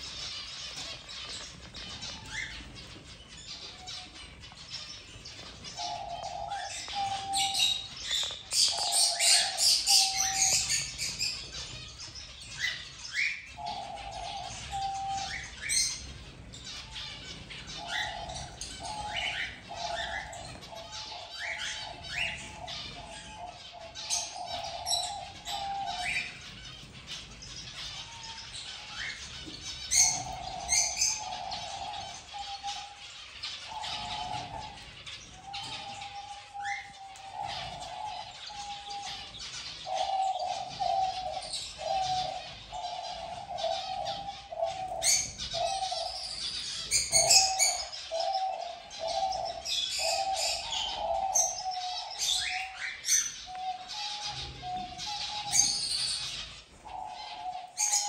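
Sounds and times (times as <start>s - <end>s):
doves cooing: 0.0s - 58.0s
finches chirping: 0.0s - 58.0s.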